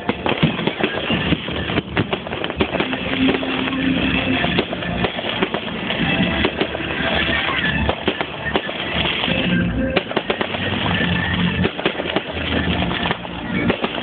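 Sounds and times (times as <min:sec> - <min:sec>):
fireworks popping and crackling: 0:00.0 - 0:14.0
fireworks rumble: 0:00.0 - 0:14.0
music playing: 0:00.0 - 0:14.0.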